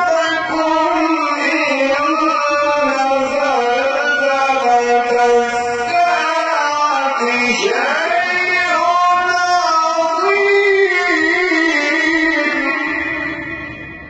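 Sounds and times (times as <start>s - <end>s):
man reciting melodically: 0.0s - 13.9s.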